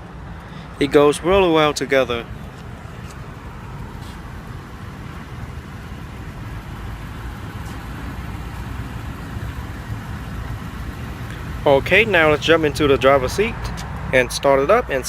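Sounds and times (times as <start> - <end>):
motor vehicle rumble: 0.0 - 15.0.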